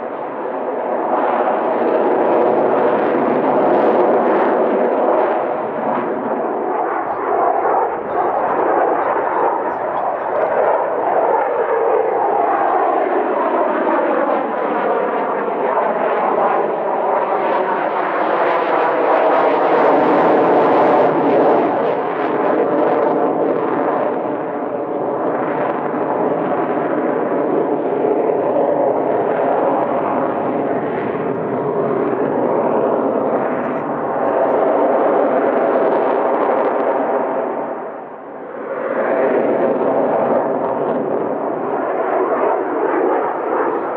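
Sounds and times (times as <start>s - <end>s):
jet engines at high power: 0.0s - 43.9s.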